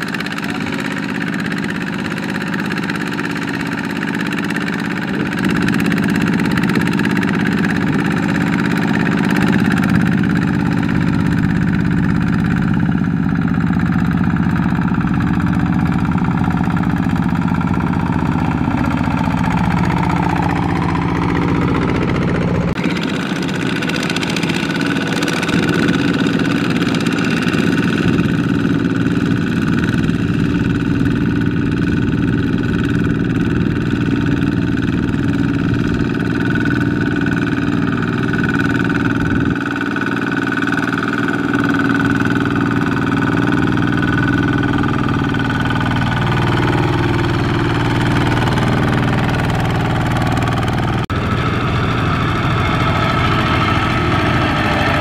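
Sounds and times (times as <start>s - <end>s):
diesel tractor engine labouring: 0.0s - 55.0s
tractor engine running steadily: 0.0s - 55.0s.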